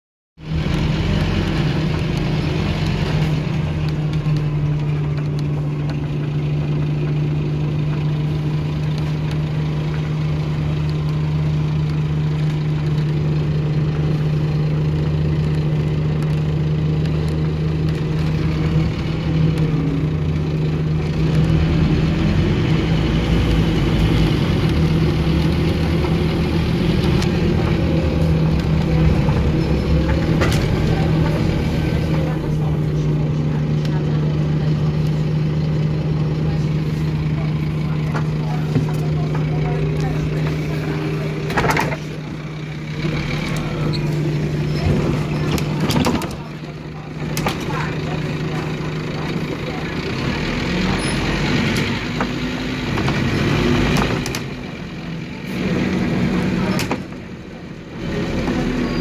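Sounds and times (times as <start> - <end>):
bus engine idling: 0.4 - 59.0.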